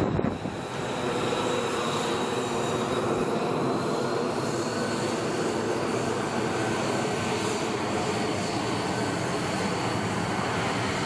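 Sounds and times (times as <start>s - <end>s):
jet engine running with high whine: 0.0s - 11.0s.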